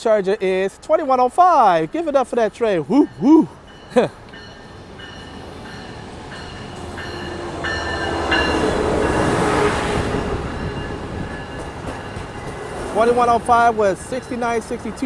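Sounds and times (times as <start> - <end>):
train rolling past: 0.6 - 15.0.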